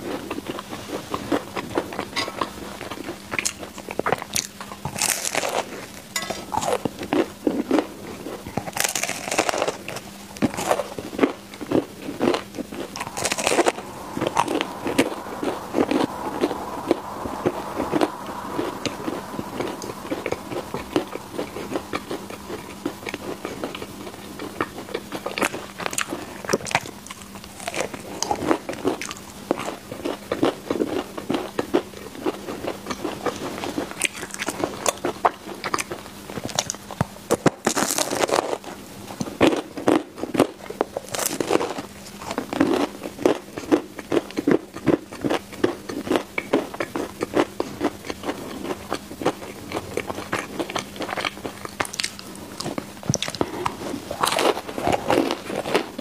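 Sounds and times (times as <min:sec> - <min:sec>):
crunchy chewing: 0:00.0 - 0:56.0
faint steady hum: 0:00.0 - 0:56.0.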